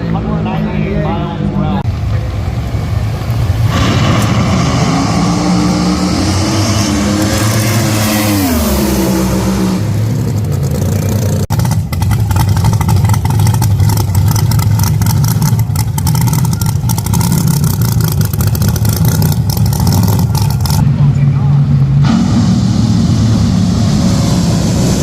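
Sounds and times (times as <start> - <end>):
drag racing engines: 0.0 - 25.0
engine rumble with crackling: 0.0 - 25.0.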